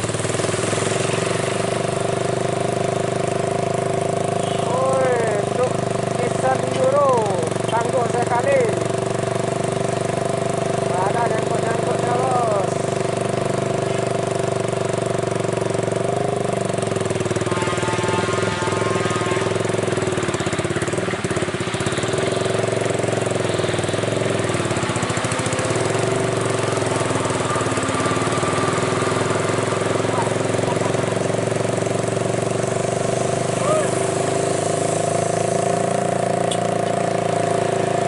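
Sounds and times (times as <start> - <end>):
truck engine droning: 0.0 - 38.0.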